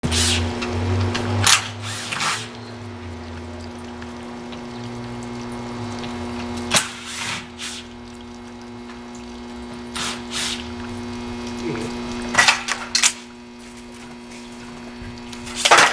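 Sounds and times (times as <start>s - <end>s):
steady mechanical hum: 0.0s - 15.9s.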